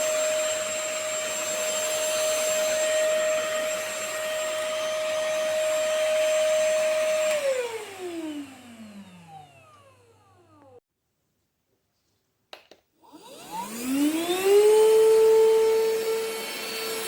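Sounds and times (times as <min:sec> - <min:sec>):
stick vacuum running: 0:00.0 - 0:10.8, 0:13.0 - 0:17.0
vacuum motor spinning down: 0:00.0 - 0:10.8, 0:13.0 - 0:17.0.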